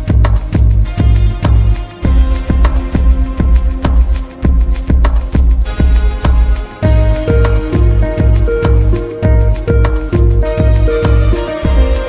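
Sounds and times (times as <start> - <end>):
background music with bass beat: 0.0 - 12.0.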